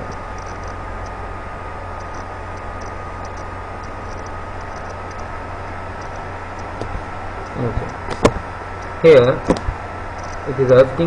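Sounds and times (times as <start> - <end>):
faint high whine: 0.0 - 11.0
low hum: 0.0 - 11.0.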